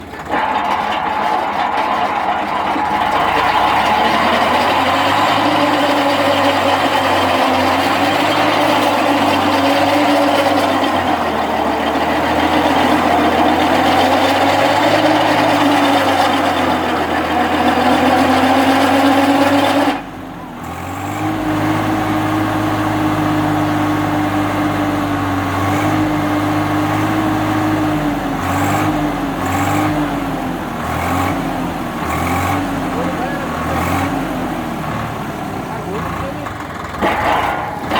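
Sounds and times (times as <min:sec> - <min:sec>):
tractor engine running under load: 0:00.0 - 0:37.9.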